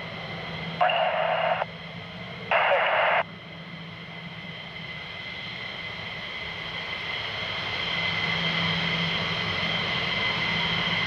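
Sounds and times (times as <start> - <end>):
jet engine whine: 0.0 - 11.0.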